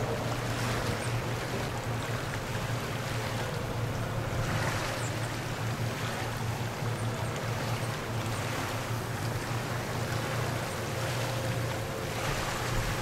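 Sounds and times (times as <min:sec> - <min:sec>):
ferry engines droning low: 0:00.0 - 0:13.0.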